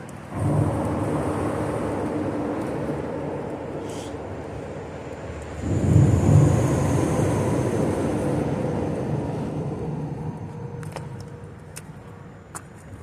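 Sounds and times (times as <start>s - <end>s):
faint high tyre whine: 0.0s - 13.0s
vehicle rumble on bridge: 0.0s - 13.0s.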